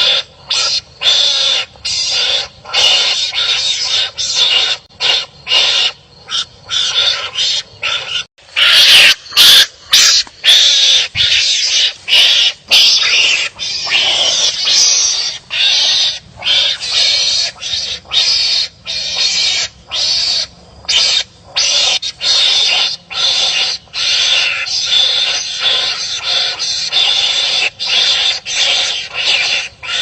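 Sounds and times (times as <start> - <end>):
animals squabbling with barking calls: 0.0 - 30.0.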